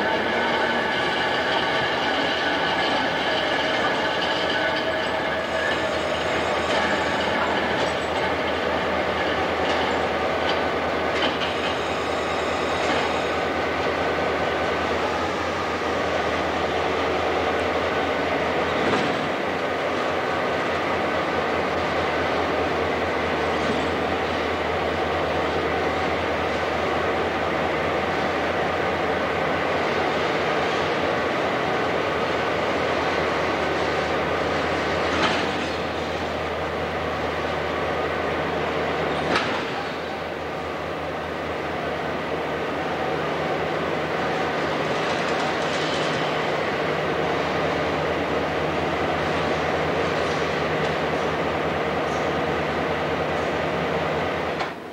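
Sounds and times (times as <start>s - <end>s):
diesel locomotive engine idling: 0.0s - 54.9s.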